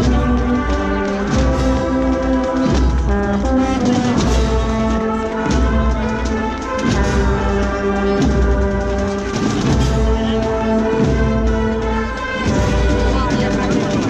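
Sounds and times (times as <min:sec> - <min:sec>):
brass band playing slow march: 0:00.0 - 0:14.0
deep drum beats: 0:00.0 - 0:14.0.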